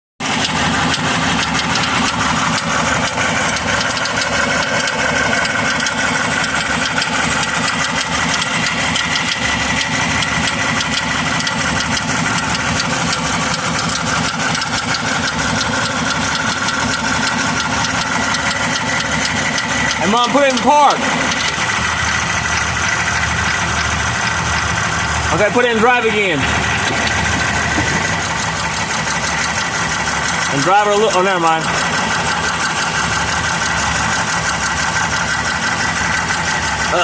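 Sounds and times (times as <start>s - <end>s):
car engine idling: 0.2s - 37.0s
fast even ticking: 0.4s - 37.0s.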